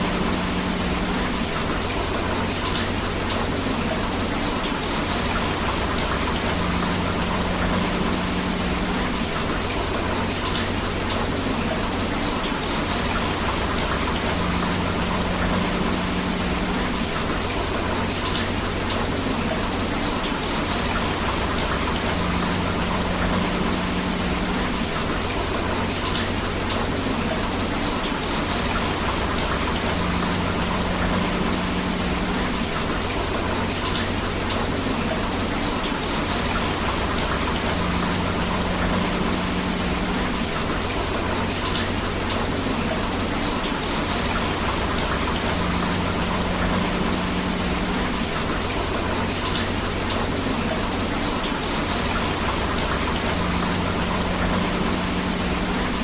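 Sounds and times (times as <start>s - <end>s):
flowing river: 0.0s - 56.0s
steady rain: 0.0s - 56.0s.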